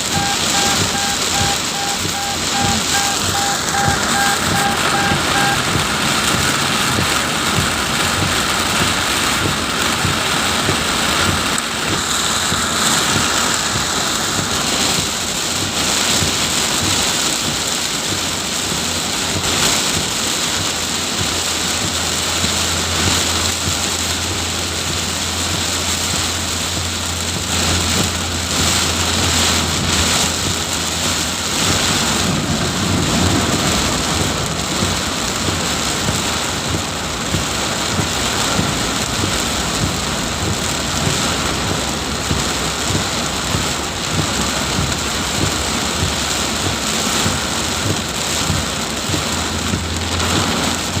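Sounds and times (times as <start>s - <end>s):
heavy rain in strong wind: 0.0s - 51.0s.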